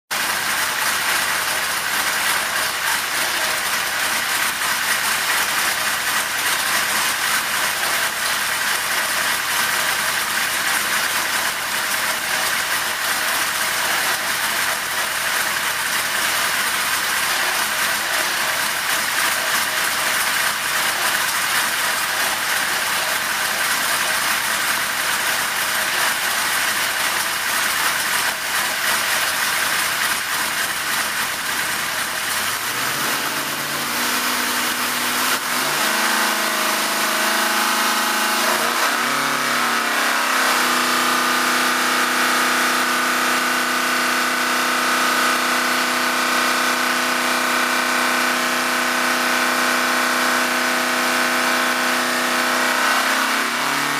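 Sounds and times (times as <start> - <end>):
engine idling: 0.1 - 53.9.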